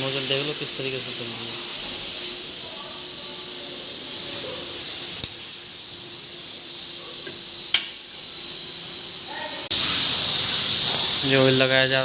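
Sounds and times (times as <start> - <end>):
steady high-pitched hiss: 0.0 - 12.0.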